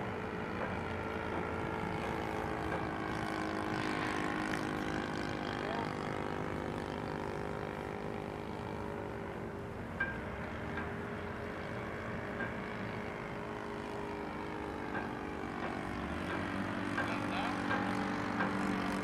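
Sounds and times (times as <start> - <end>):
model airplane motor and propeller: 0.0 - 19.0.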